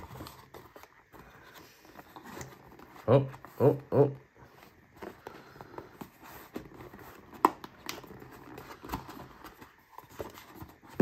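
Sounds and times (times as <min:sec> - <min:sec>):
paper rustling against cardboard: 0:00.0 - 0:03.8, 0:04.4 - 0:11.0.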